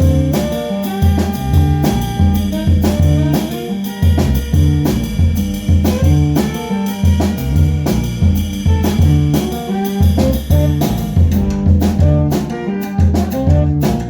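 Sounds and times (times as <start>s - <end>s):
bass line: 0.0s - 14.0s
drums: 0.0s - 14.0s
jazz band playing: 0.0s - 14.0s.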